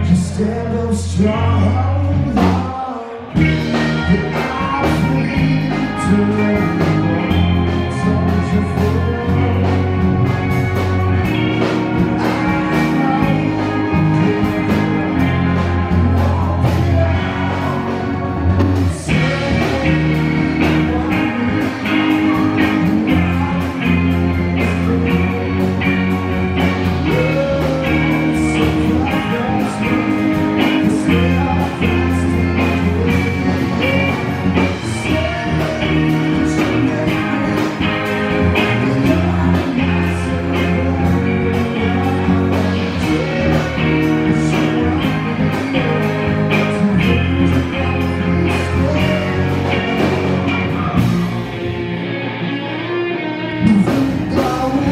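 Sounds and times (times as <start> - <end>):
electric guitars: 0.0 - 54.9
person singing: 0.0 - 54.9.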